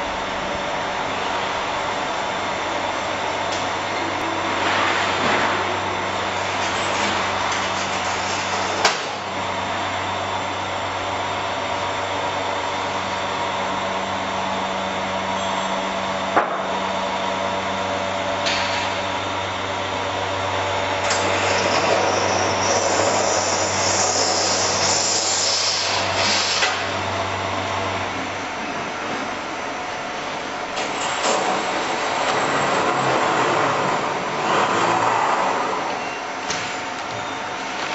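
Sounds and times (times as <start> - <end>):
vacuum pump humming: 0.0 - 37.9.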